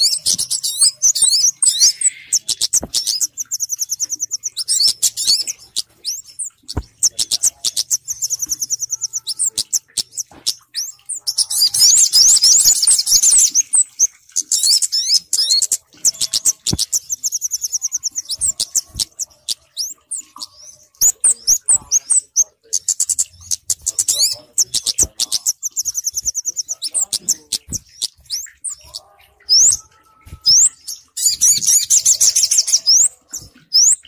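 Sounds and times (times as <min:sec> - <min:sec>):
songbird trills and chirps: 0:00.0 - 0:34.0.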